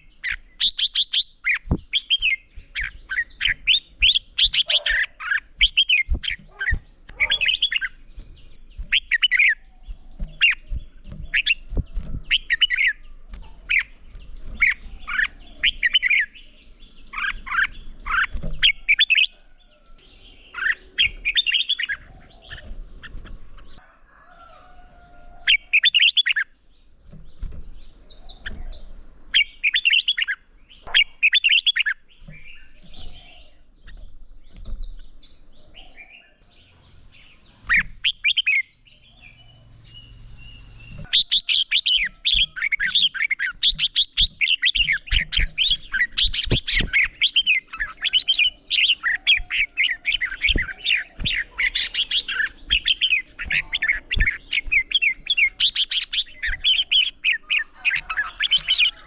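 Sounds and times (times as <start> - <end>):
bulbuls singing: 0.0 - 59.0.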